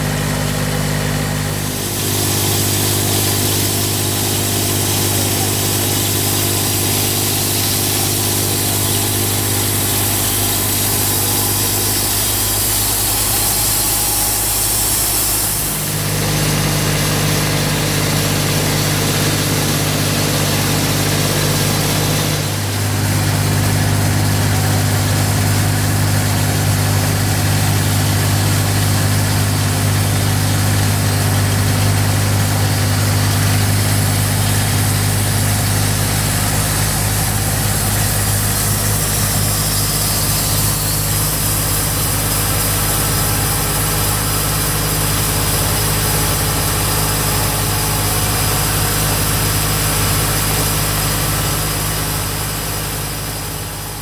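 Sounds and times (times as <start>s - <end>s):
sawmill engine droning: 0.0s - 54.0s.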